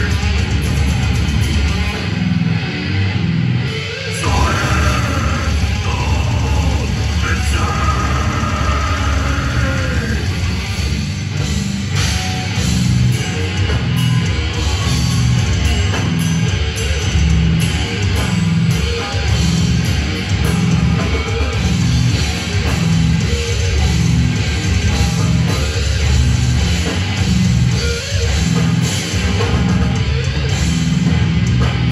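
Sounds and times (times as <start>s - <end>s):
death metal band playing live: 0.0s - 31.9s.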